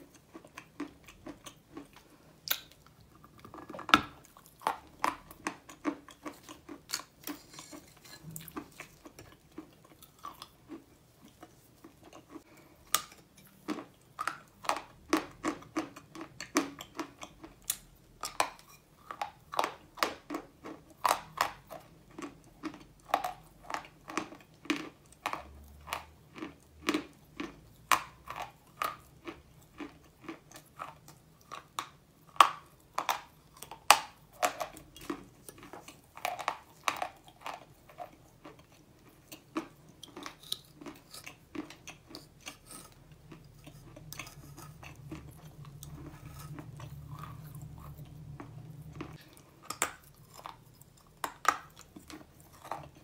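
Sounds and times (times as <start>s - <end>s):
person chewing chalk: 0.0s - 53.0s.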